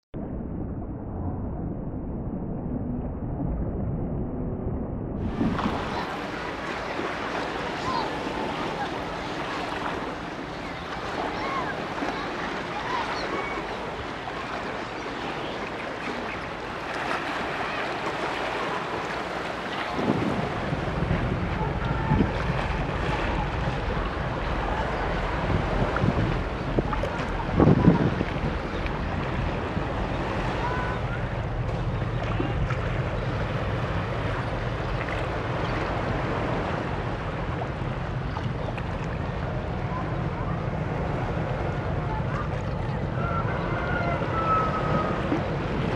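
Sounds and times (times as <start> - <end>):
wind: 0.0 - 45.9
water noise: 0.2 - 45.9
waves: 5.2 - 45.9.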